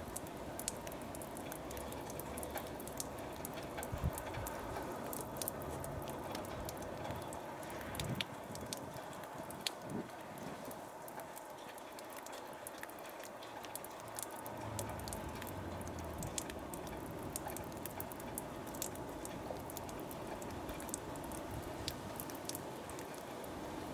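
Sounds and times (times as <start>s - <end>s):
light ticks and patter: 0.0s - 23.9s.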